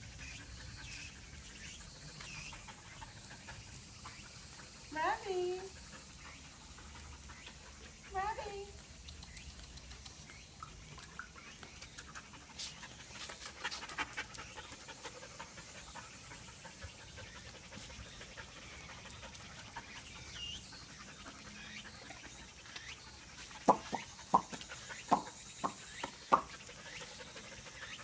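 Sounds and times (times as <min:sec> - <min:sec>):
dogs panting: 0:00.0 - 0:28.0.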